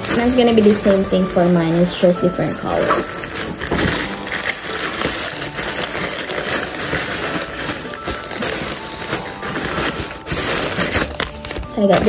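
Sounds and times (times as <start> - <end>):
light background music: 0.0 - 12.0
plastic packaging crinkling: 0.0 - 12.0.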